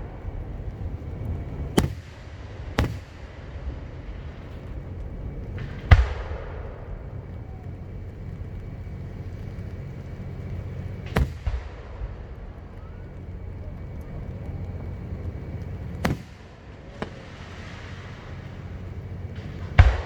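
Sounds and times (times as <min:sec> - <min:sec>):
fireworks booming: 0:00.0 - 0:20.0
low rumble: 0:00.0 - 0:20.0.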